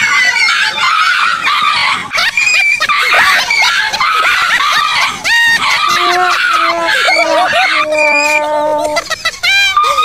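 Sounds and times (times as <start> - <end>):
dog squealing and yelping: 0.1 - 10.0.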